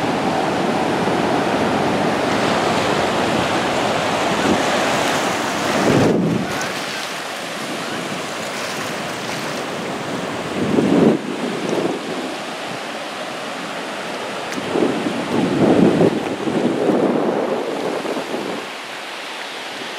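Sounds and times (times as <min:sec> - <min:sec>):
ocean surf washing: 0:00.0 - 0:19.9
wind on microphone: 0:00.0 - 0:19.9.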